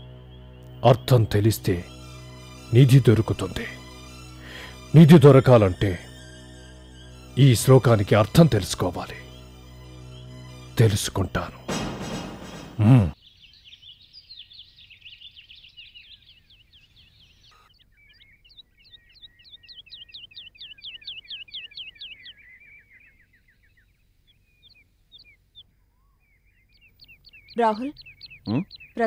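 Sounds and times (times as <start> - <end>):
small birds chirping: 0.0 - 12.0, 12.8 - 29.0.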